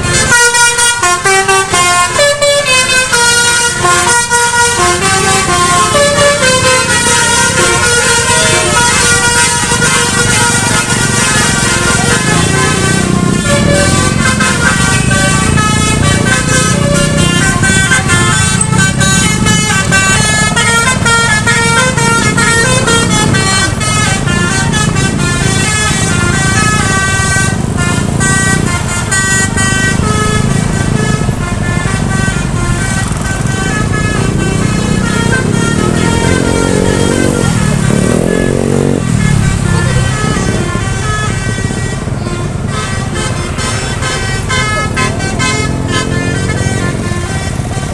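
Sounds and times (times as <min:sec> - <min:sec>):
engine and road rumble: 0:00.0 - 0:47.9
multi-tone bus horn melody: 0:00.0 - 0:47.9.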